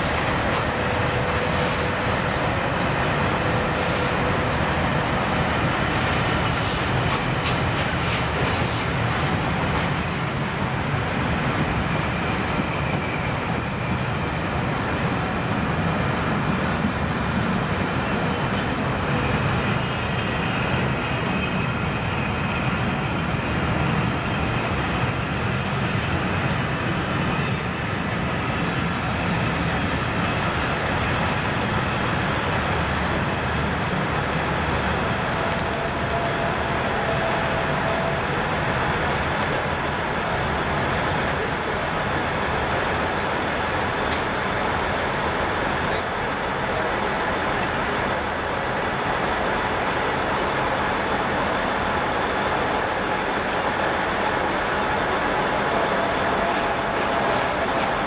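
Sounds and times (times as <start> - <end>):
steam locomotive exhaust: 0.0 - 58.0.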